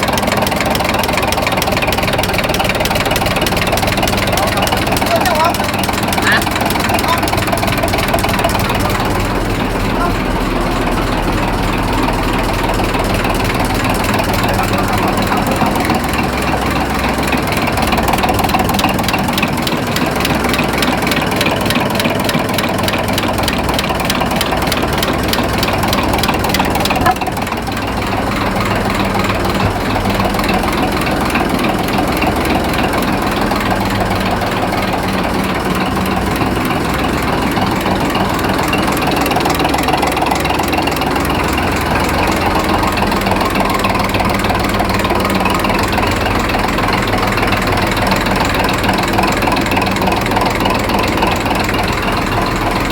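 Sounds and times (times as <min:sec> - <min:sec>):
engine idling with clatter: 0:00.0 - 0:52.9.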